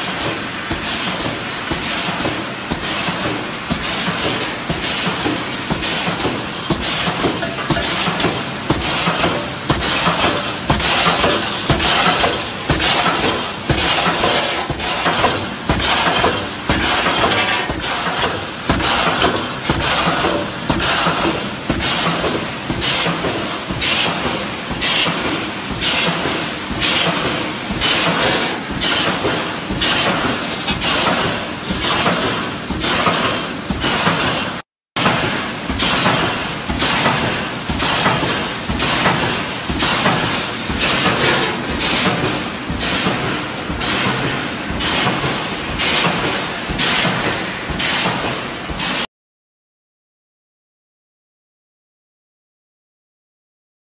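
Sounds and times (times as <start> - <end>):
welding machine metallic clatter: 0.0 - 49.0.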